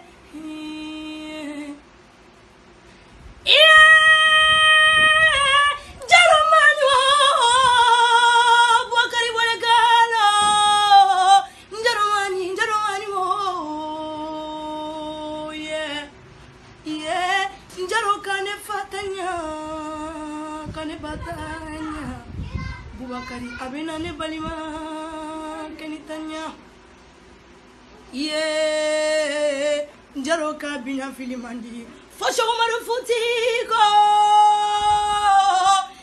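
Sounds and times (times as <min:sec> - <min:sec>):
woman singing unaccompanied: 0:00.0 - 0:02.0, 0:03.4 - 0:16.2, 0:16.8 - 0:22.4, 0:23.0 - 0:26.7, 0:28.0 - 0:36.0.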